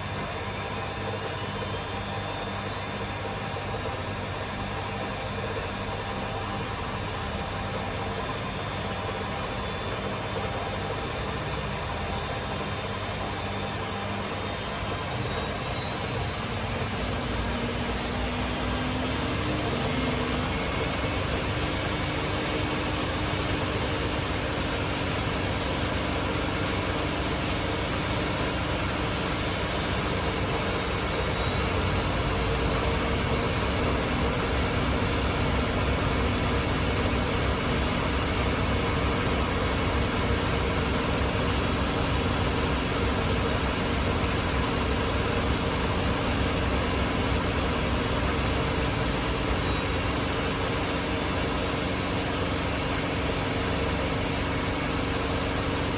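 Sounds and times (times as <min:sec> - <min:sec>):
high whine: 0:00.0 - 0:55.9
washing machines spinning: 0:00.0 - 0:55.9.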